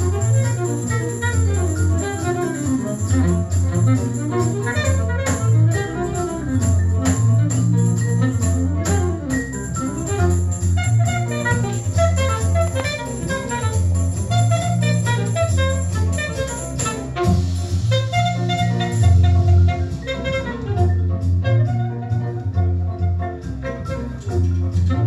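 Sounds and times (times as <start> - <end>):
bass line: 0.0 - 25.0
recorded music over loudspeakers: 0.0 - 25.0.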